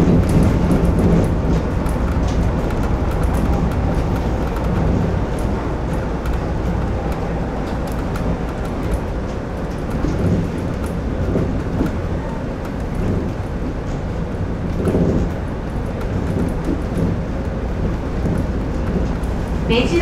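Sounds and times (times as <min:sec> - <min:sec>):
monorail running noise: 0:00.0 - 0:20.0.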